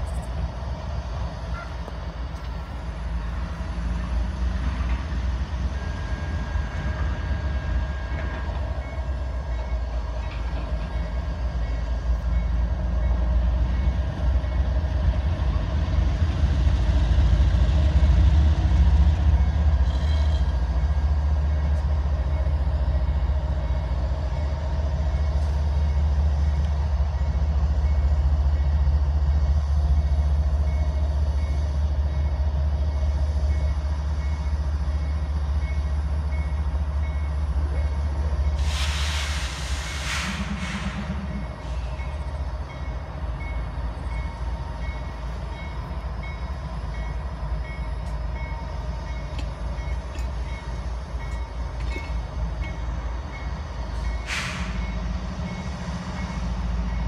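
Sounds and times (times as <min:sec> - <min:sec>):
train rolling past rumbling: 0:00.0 - 0:57.0.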